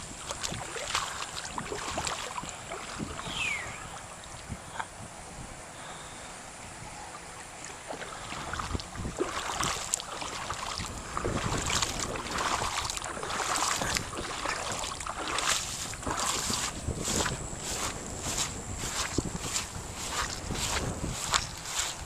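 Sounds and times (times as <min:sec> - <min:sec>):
footsteps sloshing through water: 0:00.0 - 0:04.5, 0:07.1 - 0:22.0.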